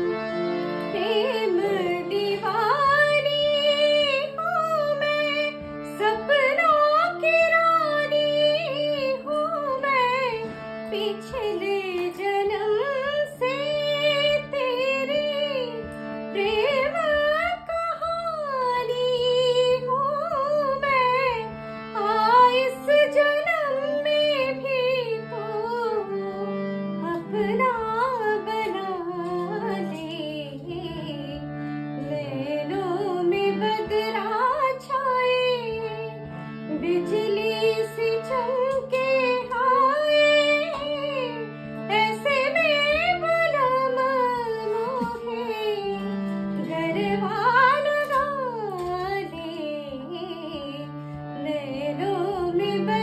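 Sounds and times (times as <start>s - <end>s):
harmonium chords: 0.0s - 53.0s
woman singing: 0.8s - 53.0s.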